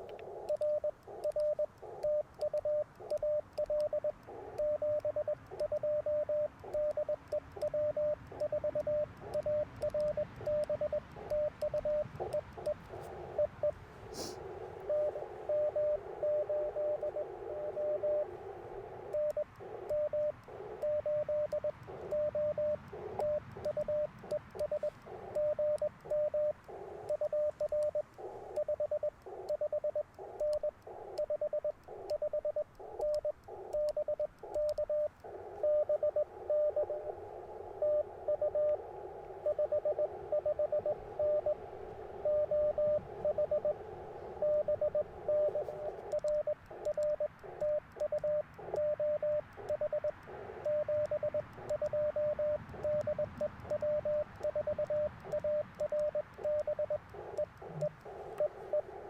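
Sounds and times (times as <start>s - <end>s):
radio static hiss: 0.0s - 59.0s
morse code tone beeping: 0.3s - 13.8s, 14.8s - 37.1s, 37.7s - 59.0s.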